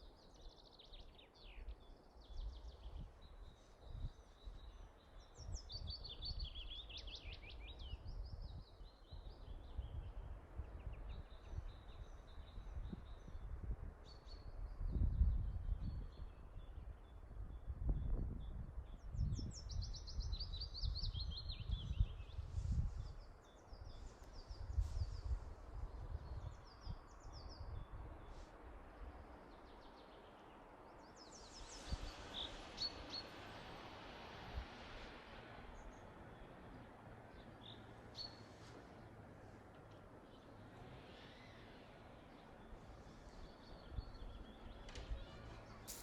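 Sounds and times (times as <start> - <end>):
songbirds singing: 0.0 - 46.0.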